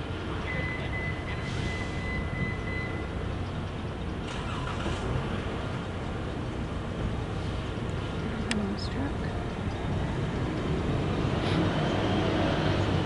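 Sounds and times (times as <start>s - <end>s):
diesel locomotive rumbling: 0.0s - 13.0s
road vehicles: 0.0s - 13.0s.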